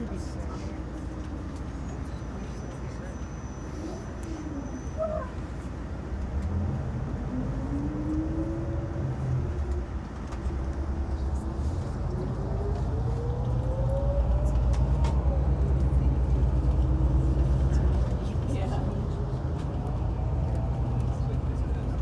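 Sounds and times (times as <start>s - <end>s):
coach engine rumble and whine: 0.0s - 22.0s.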